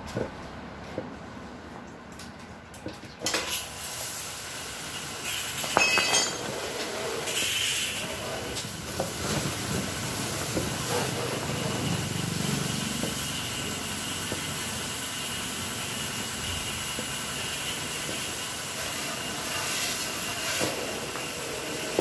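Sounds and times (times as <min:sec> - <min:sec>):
steady hiss: 0:03.3 - 0:22.0.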